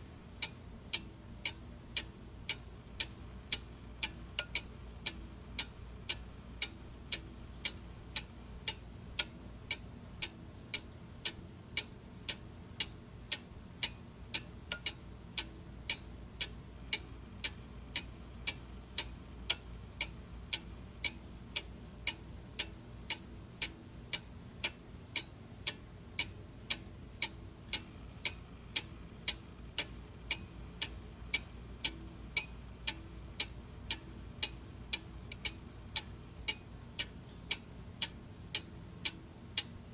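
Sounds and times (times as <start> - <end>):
clock ticking: 0.0 - 39.8
faint low hum: 0.0 - 39.9.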